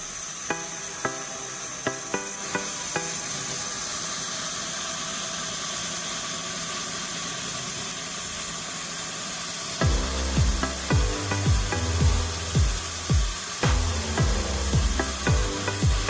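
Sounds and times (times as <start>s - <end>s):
sawmill machinery hiss and hum: 0.0s - 16.0s.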